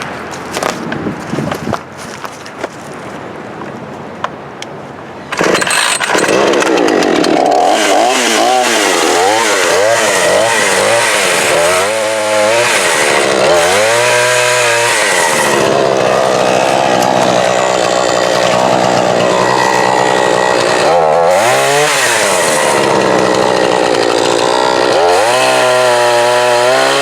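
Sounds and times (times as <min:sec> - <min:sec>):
chainsaw revving: 0:05.3 - 0:27.0.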